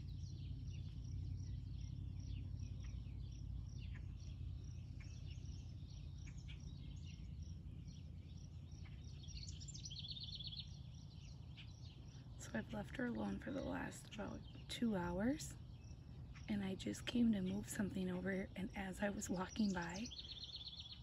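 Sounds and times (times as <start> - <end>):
songbirds chirping and calling: 0.0 - 21.0
steady low rumble: 0.0 - 21.0.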